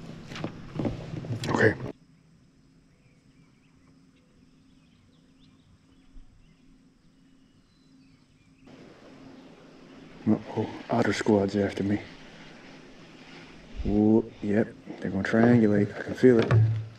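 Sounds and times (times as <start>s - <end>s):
low steady hum: 0.0s - 16.9s
distant bird chirps: 1.9s - 16.9s.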